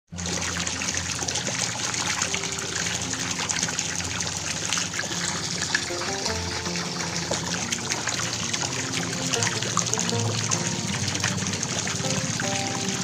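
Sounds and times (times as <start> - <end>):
water pouring into a pond: 0.1 - 13.0.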